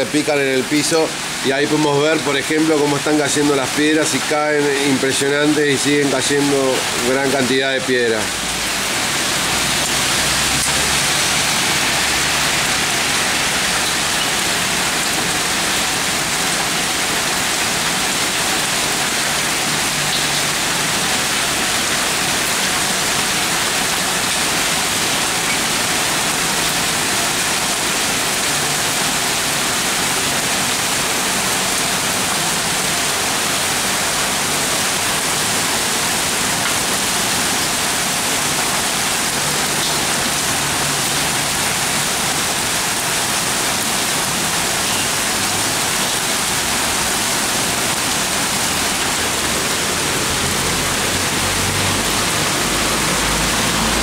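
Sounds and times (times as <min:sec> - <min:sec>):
heavy rain and hail pelting: 0:00.0 - 0:54.0.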